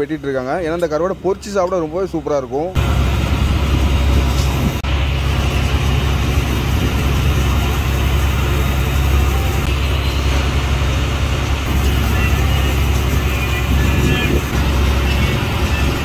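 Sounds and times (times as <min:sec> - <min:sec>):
boat engine droning: 0:02.5 - 0:16.0.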